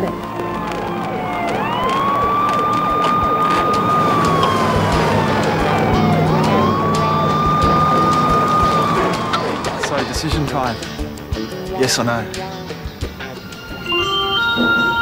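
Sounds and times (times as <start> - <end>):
vehicle siren wailing: 0.0 - 11.0, 13.3 - 15.0.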